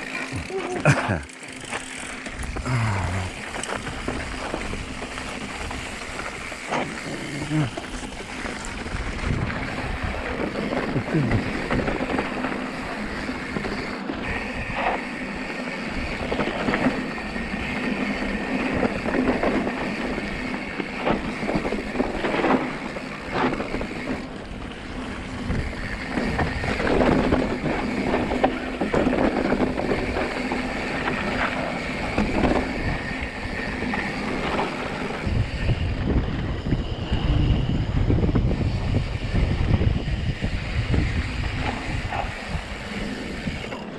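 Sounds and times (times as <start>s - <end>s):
bike clicks and rattles: 0.0s - 43.9s
tyre and wind noise: 0.0s - 43.9s.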